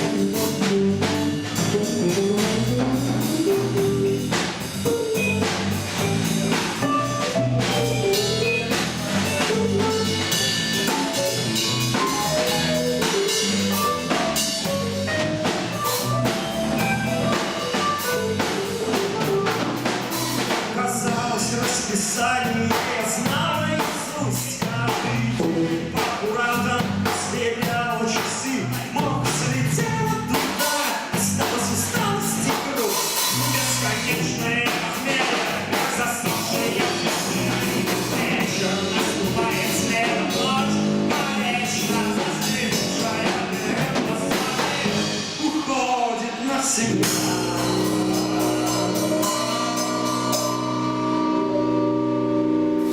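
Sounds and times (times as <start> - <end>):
person singing: 0.0 - 52.9
rock music with drums: 0.0 - 52.9.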